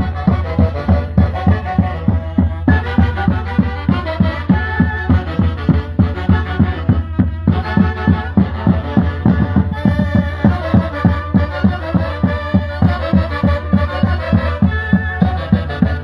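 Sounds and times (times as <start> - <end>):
drum beating steady rhythm: 0.0 - 16.0
saxophones and trumpets: 0.0 - 16.0
violin: 0.0 - 16.0.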